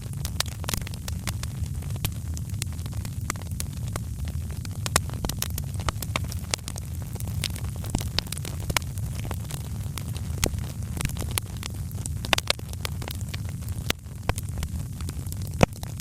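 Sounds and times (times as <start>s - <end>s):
low rumble of fire: 0.0s - 16.0s
wood fire crackling: 0.0s - 16.0s.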